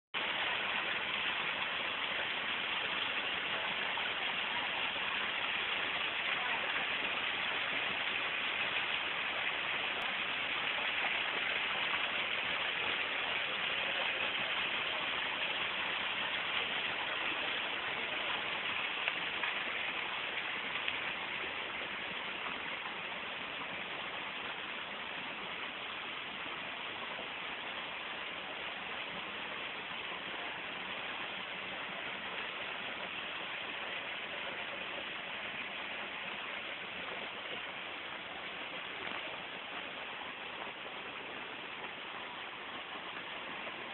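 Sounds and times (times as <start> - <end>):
waterfall splashing onto rocks: 0.2 - 43.9.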